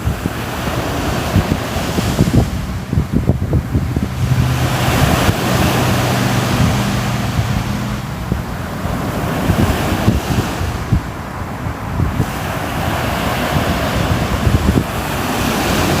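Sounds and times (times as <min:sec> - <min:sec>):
sea waves washing in: 0:00.0 - 0:16.0
wind buffeting microphone: 0:00.0 - 0:16.0.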